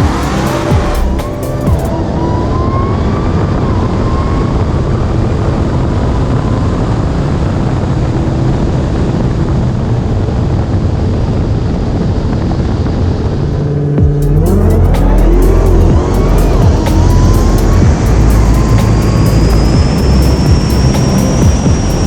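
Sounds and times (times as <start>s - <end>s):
car road noise: 0.0s - 22.0s
engine drone: 0.0s - 22.0s.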